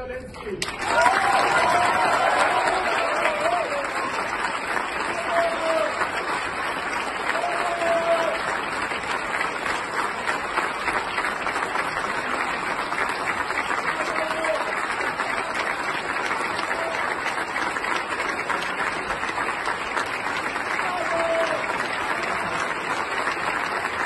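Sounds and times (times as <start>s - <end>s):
large audience applauding: 0.6s - 24.0s.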